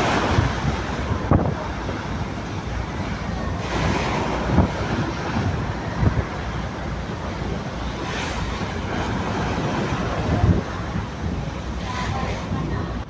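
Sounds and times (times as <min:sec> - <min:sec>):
waves rushing: 0:00.0 - 0:13.0
wind buffeting microphone: 0:00.0 - 0:13.0.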